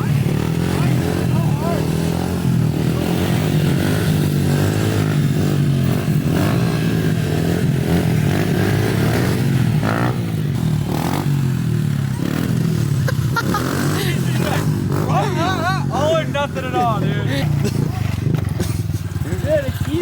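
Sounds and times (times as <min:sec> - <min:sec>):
motorbike engine running: 0:00.0 - 0:20.0.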